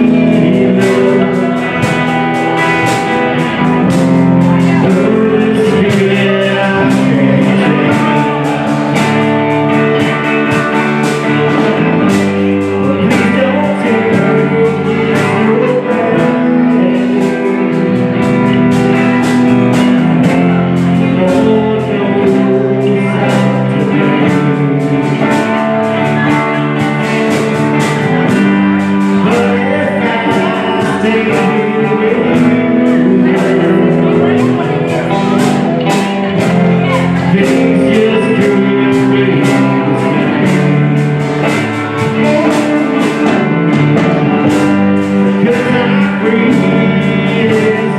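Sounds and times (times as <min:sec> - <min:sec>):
rock band playing: 0:00.0 - 0:47.9.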